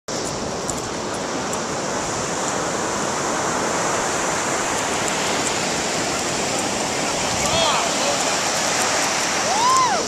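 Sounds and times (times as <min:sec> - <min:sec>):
ocean surf breaking: 0:00.1 - 0:10.0.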